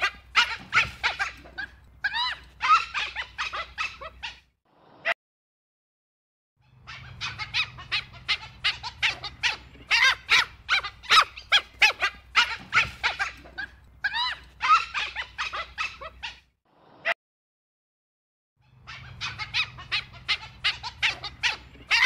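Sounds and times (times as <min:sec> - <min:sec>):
wild dog high-pitched calls: 0:00.0 - 0:04.5, 0:06.6 - 0:16.5, 0:18.6 - 0:22.0.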